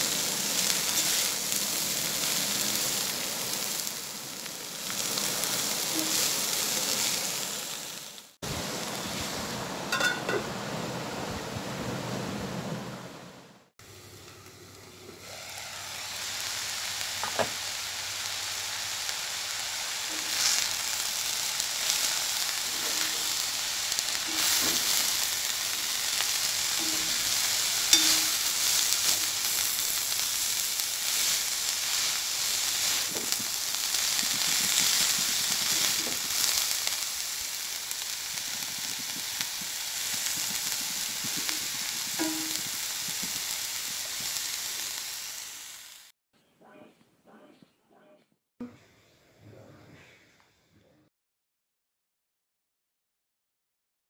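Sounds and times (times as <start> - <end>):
vegetables sizzling in a pan: 0.0 - 11.7, 13.8 - 46.1.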